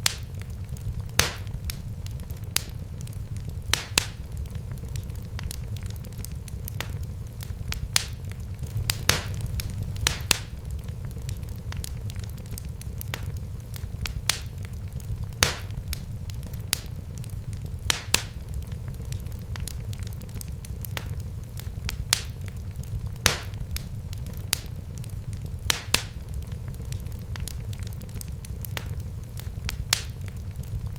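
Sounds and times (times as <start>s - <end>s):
fire crackling and popping: 0.0s - 30.9s
low rumble of flames: 0.0s - 30.9s.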